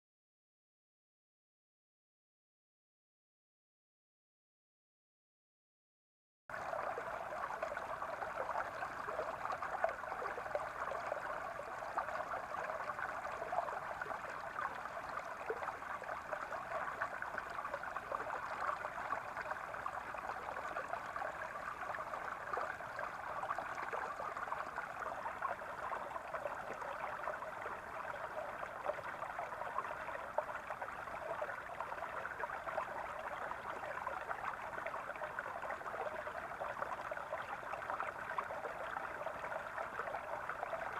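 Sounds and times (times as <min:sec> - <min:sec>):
brook babbling over stones: 0:06.5 - 0:40.9.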